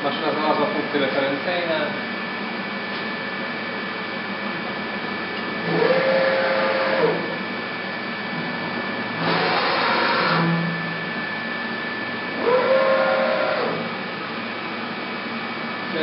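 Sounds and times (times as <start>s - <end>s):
machine hum: 0.0s - 16.0s
motor whine: 0.1s - 16.0s.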